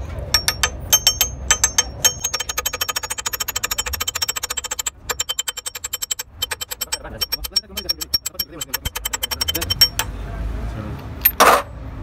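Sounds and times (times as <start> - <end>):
metal tool tapping gearbox casing: 0.0 - 10.1.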